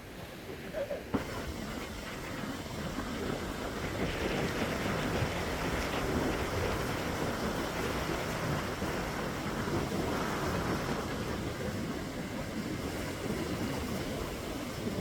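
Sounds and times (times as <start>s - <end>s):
sea surf on a beach: 0.0s - 15.0s
wind buffeting microphone: 0.0s - 15.0s.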